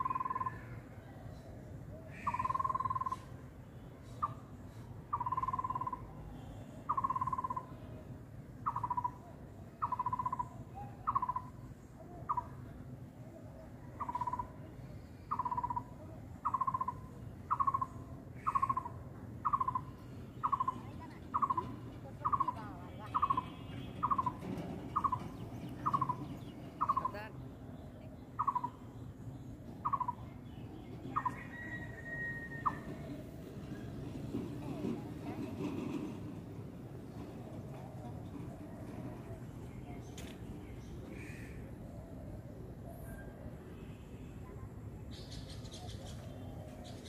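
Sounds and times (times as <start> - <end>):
bird calling: 0.0 - 3.4, 4.0 - 7.9, 8.6 - 36.0, 37.2 - 43.5.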